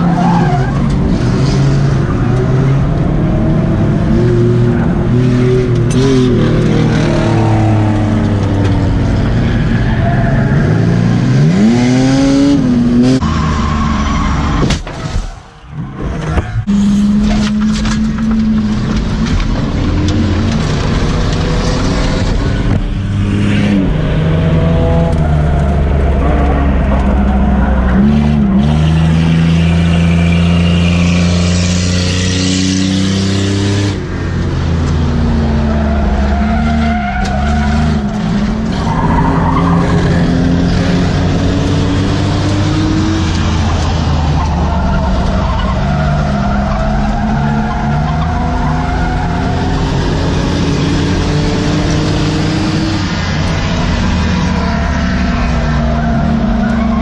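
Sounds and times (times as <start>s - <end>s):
race car engine revving: 0.0s - 14.5s, 16.0s - 57.0s.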